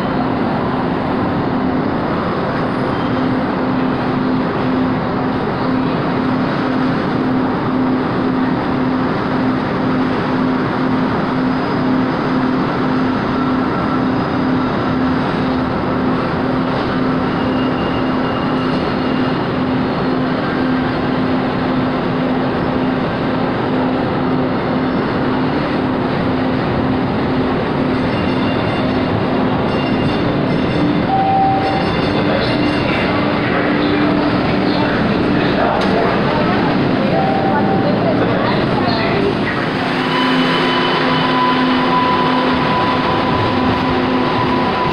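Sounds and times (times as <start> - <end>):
train rumbling through station: 0.0 - 44.9.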